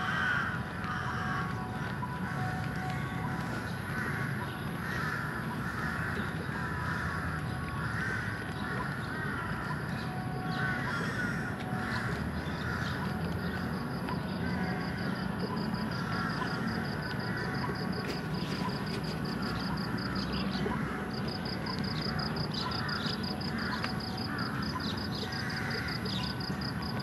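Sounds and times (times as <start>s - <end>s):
birds calling: 0.0s - 27.0s
low city hum: 0.0s - 27.0s.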